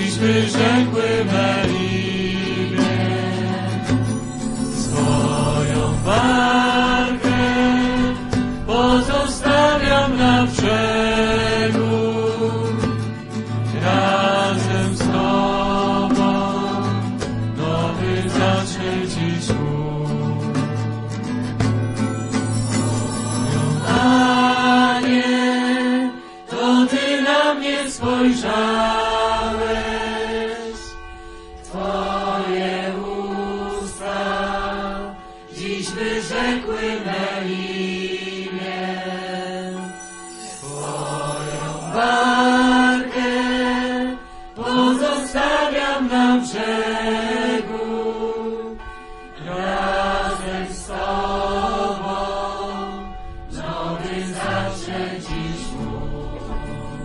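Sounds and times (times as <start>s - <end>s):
voices singing slow chant: 0.0s - 57.0s.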